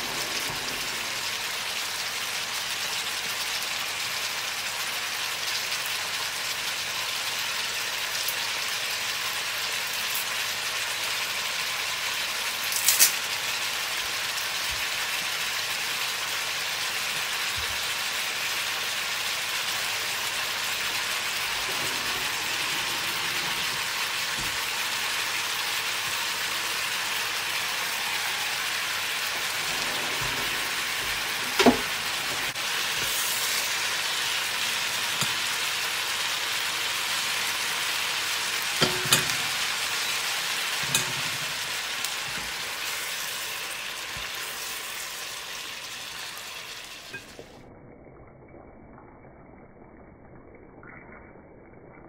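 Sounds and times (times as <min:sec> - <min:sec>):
food sizzling in a frying pan: 0:00.0 - 0:47.6.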